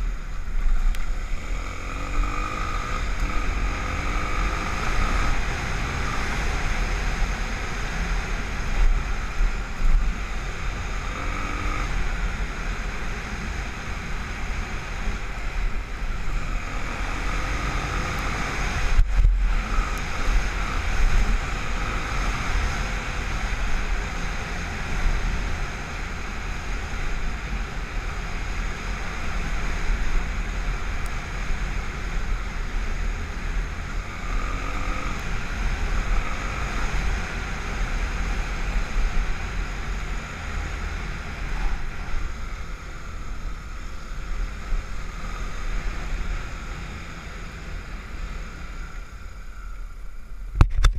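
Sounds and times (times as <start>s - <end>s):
faint motorcycle engine: 0.0s - 50.9s.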